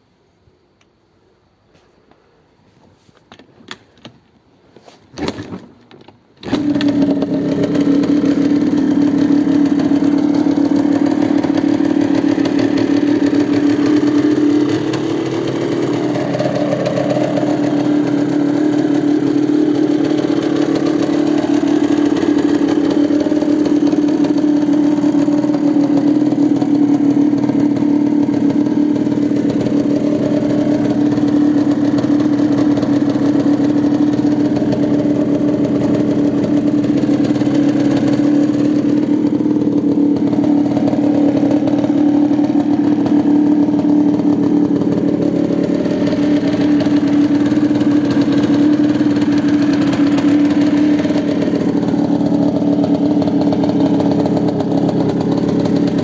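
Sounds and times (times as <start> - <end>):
two-stroke engine idling: 6.4 - 56.0.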